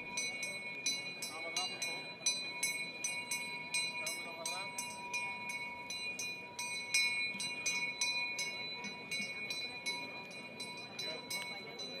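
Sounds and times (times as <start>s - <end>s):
bell struck rapidly: 0.0s - 12.0s.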